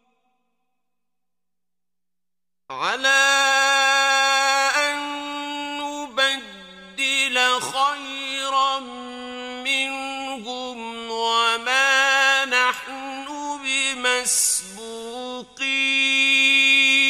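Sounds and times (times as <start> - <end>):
man chanting melodic recitation: 2.7 - 17.0.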